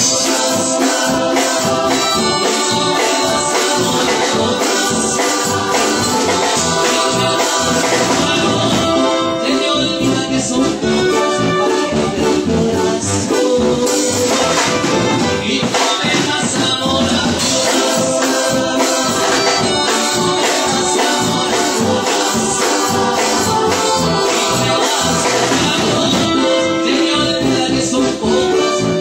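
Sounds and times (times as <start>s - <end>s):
loud latin dance music: 0.0s - 29.0s.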